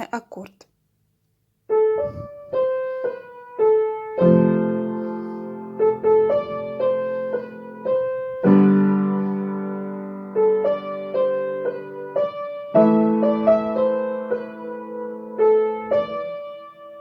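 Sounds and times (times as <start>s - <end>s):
piano melody with chords: 1.7s - 17.0s.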